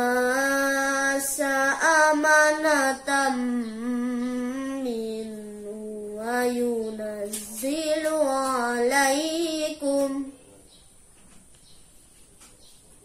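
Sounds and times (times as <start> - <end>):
boy chanting recitation: 0.0 - 10.6.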